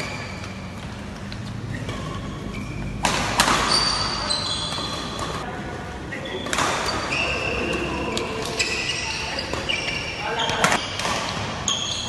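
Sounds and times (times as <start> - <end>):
racket hitting shuttlecock: 0.0 - 5.4, 6.4 - 11.7
shoes squeaking on court floor: 0.0 - 12.0.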